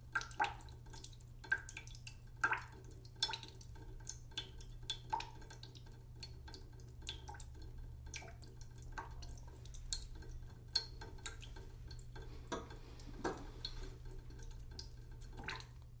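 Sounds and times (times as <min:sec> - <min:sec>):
water dripping into a pot: 0:00.0 - 0:16.0.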